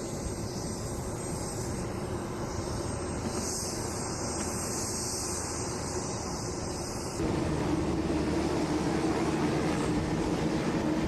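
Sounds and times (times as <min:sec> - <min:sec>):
helicopter rumble and hiss: 0:00.0 - 0:11.0
steady hum: 0:00.0 - 0:11.0.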